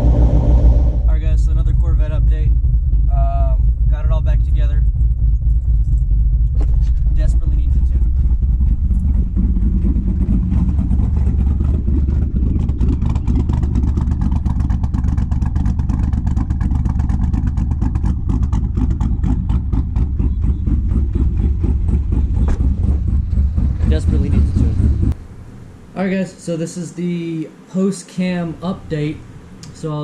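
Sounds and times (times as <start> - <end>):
car engine idling unevenly: 0.0 - 30.0.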